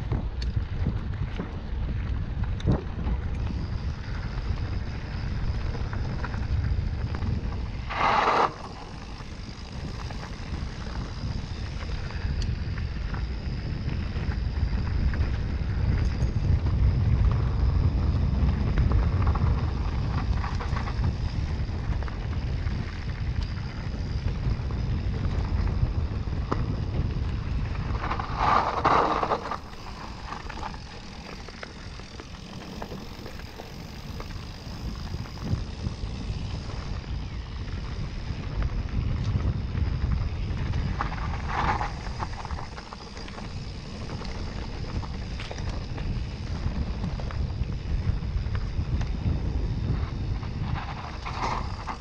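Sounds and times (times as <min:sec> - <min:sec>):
electric bike rumble: 0:00.0 - 0:52.0
wind buffeting microphone: 0:00.0 - 0:52.0.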